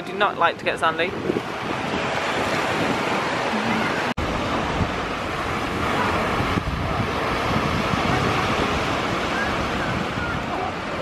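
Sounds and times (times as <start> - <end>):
waves washing on sand: 0.0 - 11.0
wind buffeting microphone: 0.0 - 11.0.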